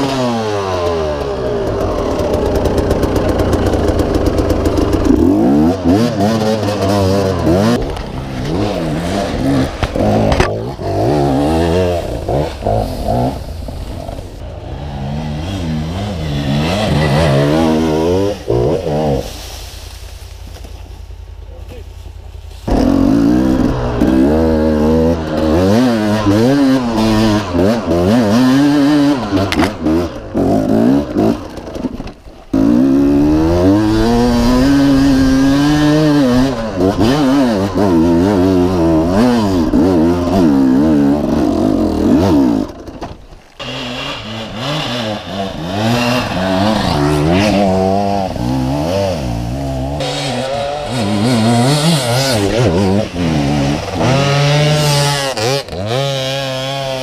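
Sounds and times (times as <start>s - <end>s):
dirt bike engine revving: 0.0s - 19.7s, 22.6s - 57.0s.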